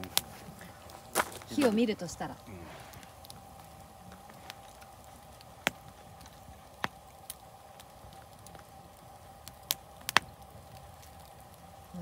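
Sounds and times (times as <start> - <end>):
campfire crackling: 0.0 - 12.0
faint steady hum: 0.0 - 12.0
sharp fire pops: 0.0 - 12.0.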